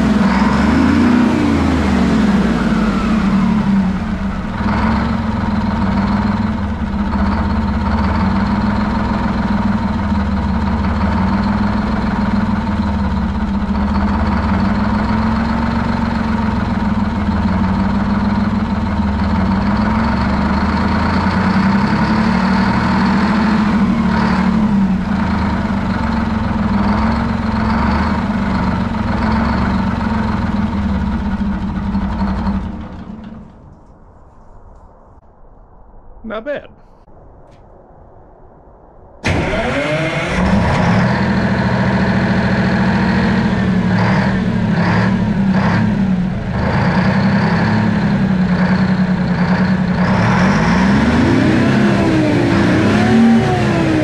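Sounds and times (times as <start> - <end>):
diesel generator running: 0.0 - 34.0, 39.2 - 54.0.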